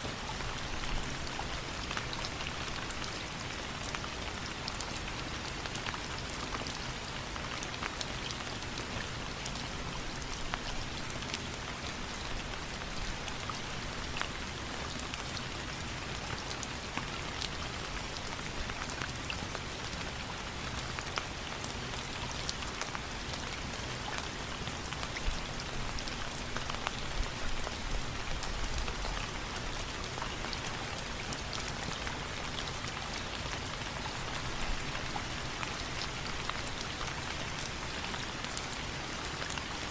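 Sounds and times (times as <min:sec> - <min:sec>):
steady rain hissing and ticking: 0:00.0 - 0:39.9.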